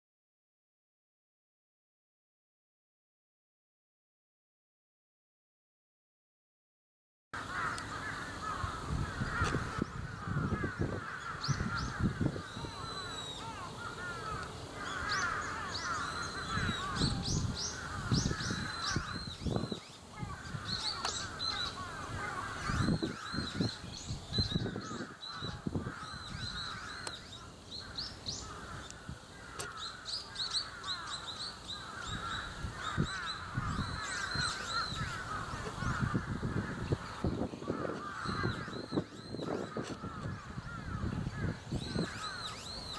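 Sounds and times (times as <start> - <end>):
birds chattering: 7.4 - 42.9.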